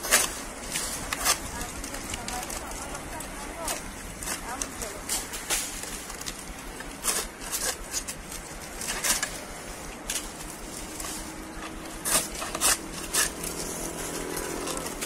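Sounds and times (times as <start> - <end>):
sickle snaps and scrapes: 0.0 - 2.9, 3.6 - 15.0
dry palm fronds crackling: 0.0 - 15.0.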